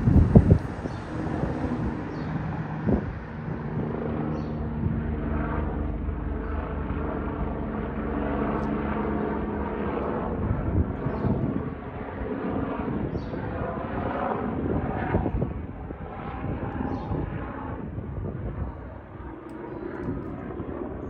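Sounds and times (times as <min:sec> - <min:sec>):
helicopter flying overhead: 0:00.0 - 0:21.0.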